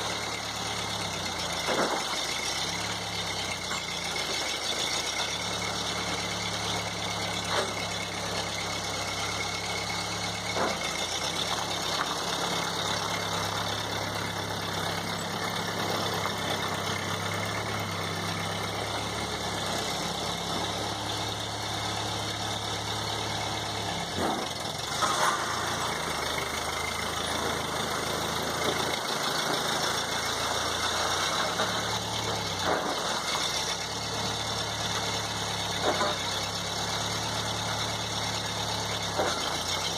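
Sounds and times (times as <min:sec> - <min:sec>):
dragged gravel: 0:00.0 - 0:39.9
tractor engine running: 0:00.0 - 0:39.9.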